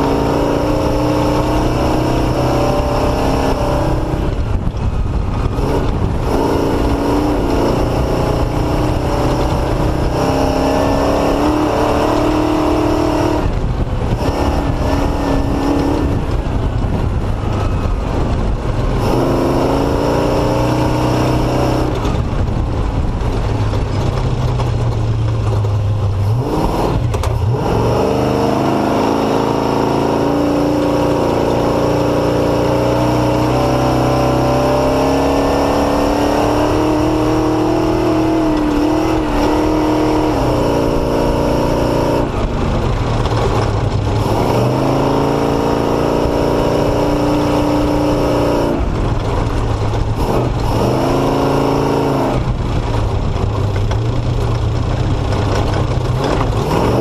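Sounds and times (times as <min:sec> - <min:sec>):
off-road motorcycle engine: 0:00.0 - 0:57.0
wind and riding noise: 0:00.0 - 0:57.0.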